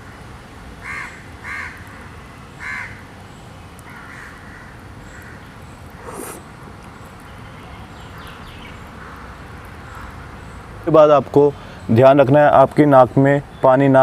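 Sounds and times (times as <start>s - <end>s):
harsh bird calls: 0.8s - 14.0s.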